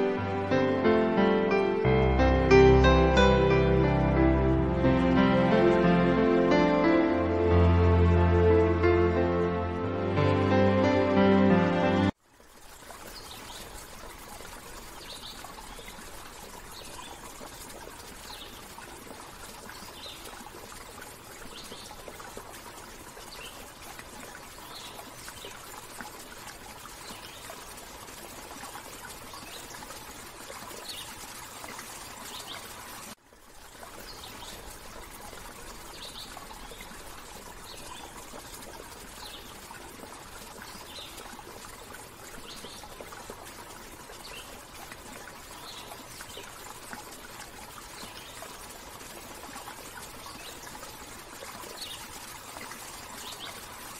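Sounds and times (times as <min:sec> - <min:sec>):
running water: 0:00.0 - 0:53.9.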